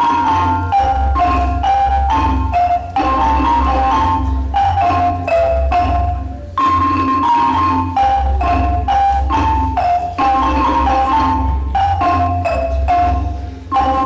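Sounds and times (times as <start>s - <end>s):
xylophones and glockenspiels melody: 0.0s - 14.0s.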